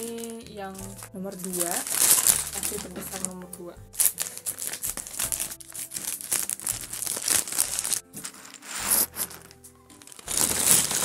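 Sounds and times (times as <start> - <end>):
plastic bag crinkling: 0.0 - 11.0
soft background music: 0.0 - 11.0.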